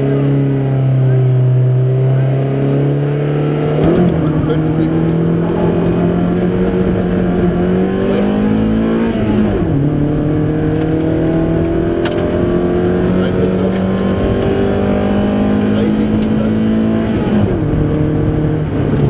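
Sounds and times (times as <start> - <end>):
car engine pulling under load: 0.0 - 19.0.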